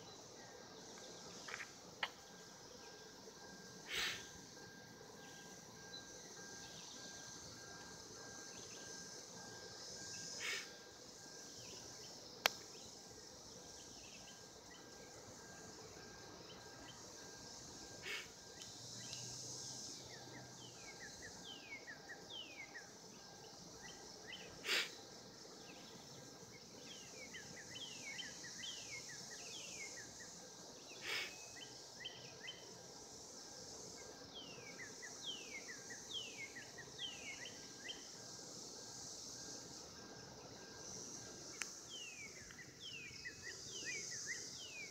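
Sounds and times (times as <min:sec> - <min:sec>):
cicada chorus drone: 0:00.0 - 0:44.9.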